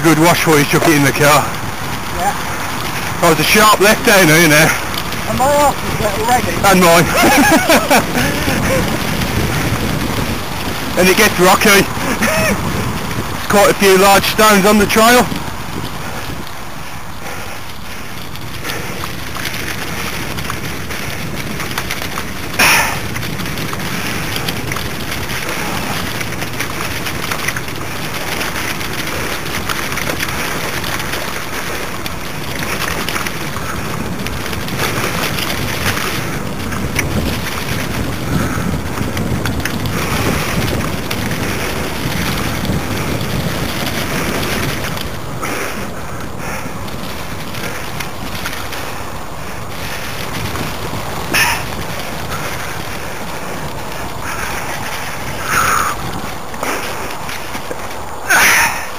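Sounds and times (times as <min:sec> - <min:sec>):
bike tyres through water and stones: 0:00.0 - 0:58.9
wind on microphone: 0:00.0 - 0:58.9.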